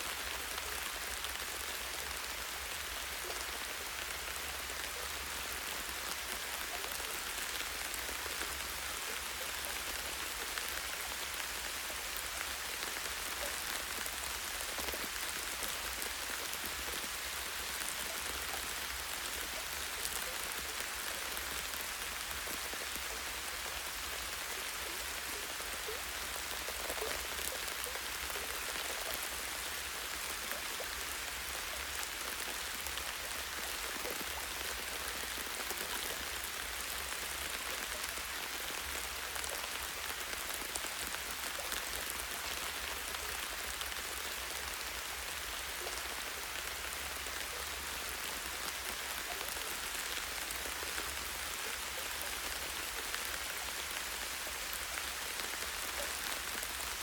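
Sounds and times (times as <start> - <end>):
rain pattering on leaves: 0.0 - 57.0.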